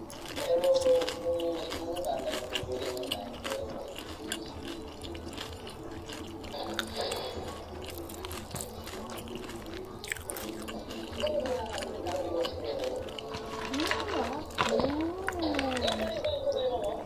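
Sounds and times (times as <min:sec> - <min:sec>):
shrimp shells cracking: 0:00.0 - 0:16.4
faint voices: 0:00.0 - 0:17.0
person chewing: 0:00.0 - 0:17.0.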